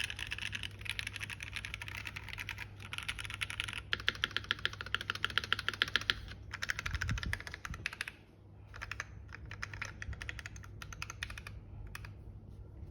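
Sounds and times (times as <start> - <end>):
mechanical keyboard typing: 0.0 - 12.1.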